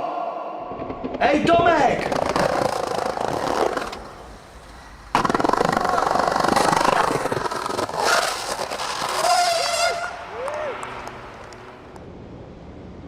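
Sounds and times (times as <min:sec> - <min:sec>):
skateboard wheels on rough pavement: 0:00.9 - 0:12.0.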